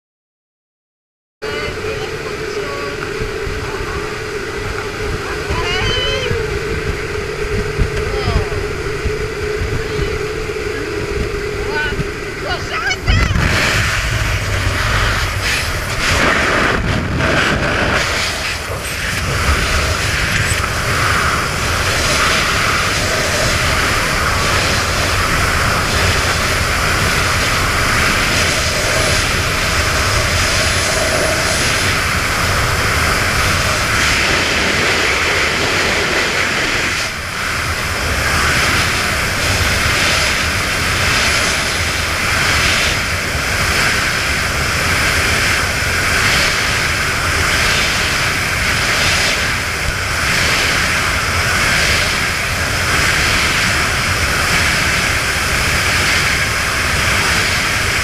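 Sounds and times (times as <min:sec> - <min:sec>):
aircraft engine rushing: 0:01.4 - 0:58.0
faint high whine: 0:01.4 - 0:58.0.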